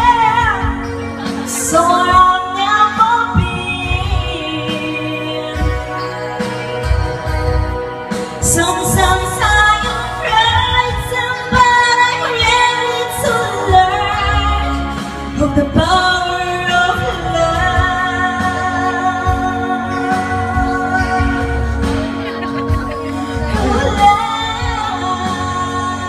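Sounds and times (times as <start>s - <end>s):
karaoke backing track: 0.0s - 26.0s
woman singing into microphone: 0.0s - 26.0s.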